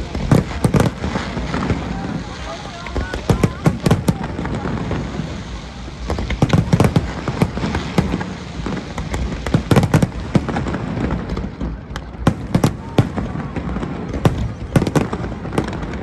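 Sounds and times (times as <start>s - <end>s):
fireworks bangs and crackling: 0.0s - 16.0s
rumble of explosions: 0.0s - 16.0s.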